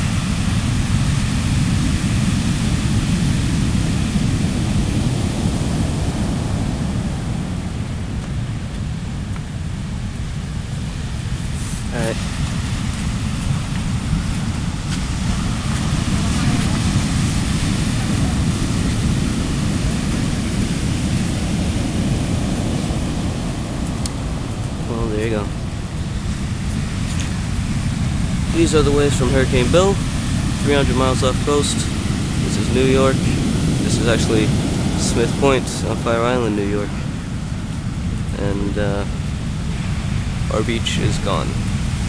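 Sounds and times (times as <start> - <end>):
heavy surf breaking: 0.0 - 42.0.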